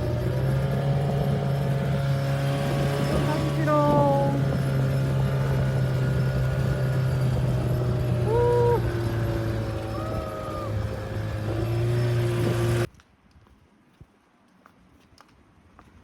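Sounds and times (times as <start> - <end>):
low machinery hum: 0.0 - 12.9.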